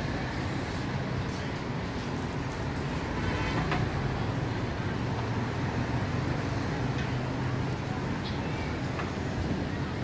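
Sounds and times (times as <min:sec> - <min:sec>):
passing traffic rumble: 0:00.0 - 0:10.0.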